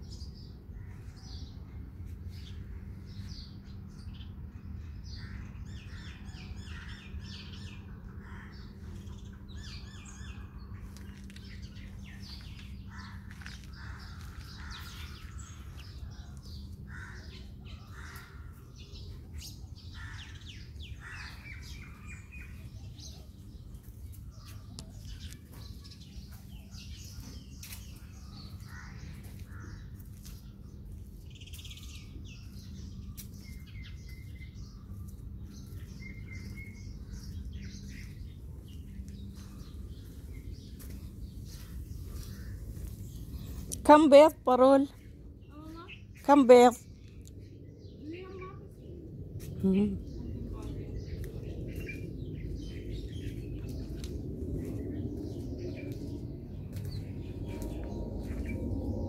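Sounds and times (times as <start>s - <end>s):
steady low hum: 0.0s - 46.2s, 46.8s - 59.0s
birds chirping: 0.0s - 59.0s.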